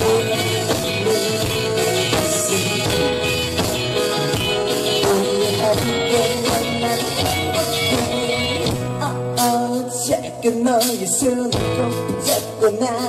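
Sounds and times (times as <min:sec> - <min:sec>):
keyboard playing: 0:00.0 - 0:10.8
acoustic guitar: 0:00.0 - 0:13.0.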